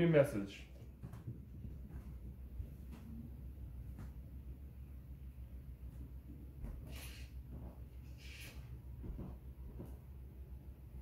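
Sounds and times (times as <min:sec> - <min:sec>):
low steady room rumble: 0:00.0 - 0:11.0.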